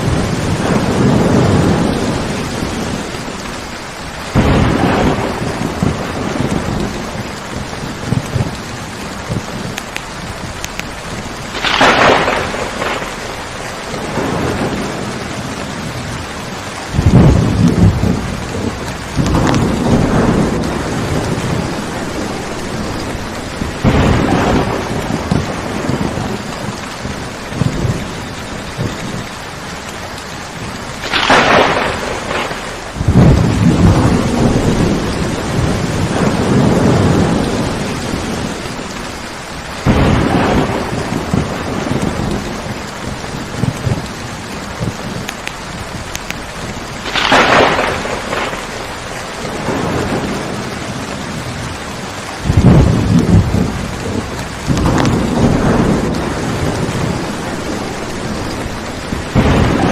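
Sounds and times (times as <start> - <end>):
steady rain: 0.0 - 59.9
thunder claps and rumbles: 0.0 - 59.9.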